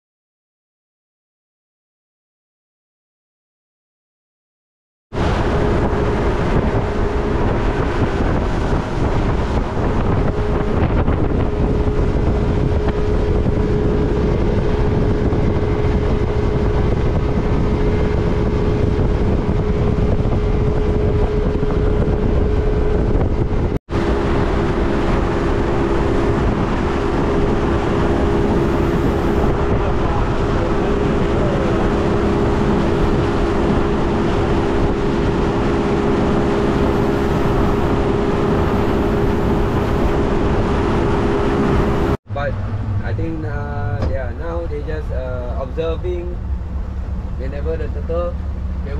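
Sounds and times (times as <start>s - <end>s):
motorboat engine drone: 5.1s - 48.9s
rushing wind and water: 5.1s - 48.9s.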